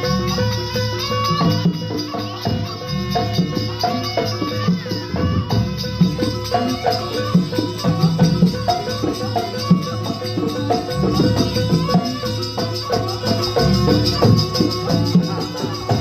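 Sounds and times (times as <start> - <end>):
drums: 0.0 - 16.0
rattling shaker-like jingle: 0.0 - 16.0
struck metal percussion: 0.0 - 16.0.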